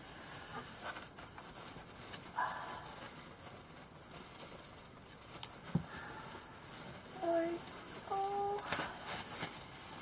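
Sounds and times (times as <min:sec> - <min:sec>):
plastic bags rustling: 0:00.5 - 0:10.0.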